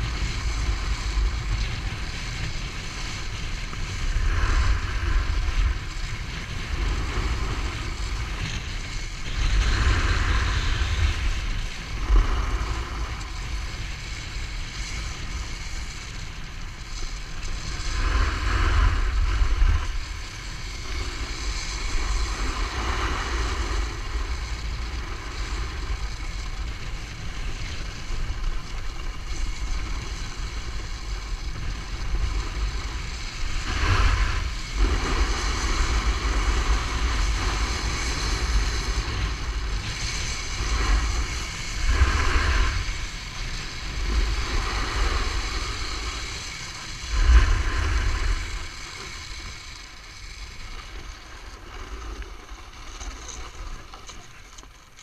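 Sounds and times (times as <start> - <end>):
snowmobile engine running: 0.0 - 54.9
skis running over snow: 0.0 - 55.0
wind buffeting microphone: 0.0 - 55.0.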